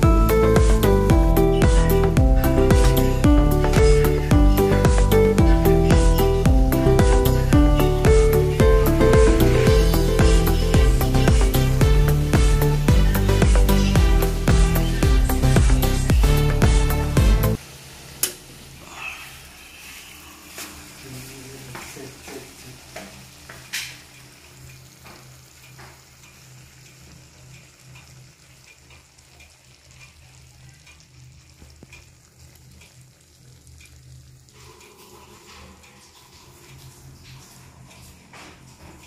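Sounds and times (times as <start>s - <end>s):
food sizzling in a wok: 0.0s - 39.0s.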